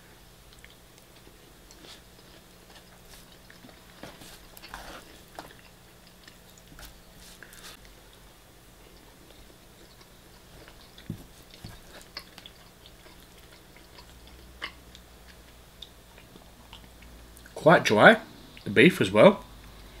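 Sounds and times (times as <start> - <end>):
chewing: 0.5 - 17.6.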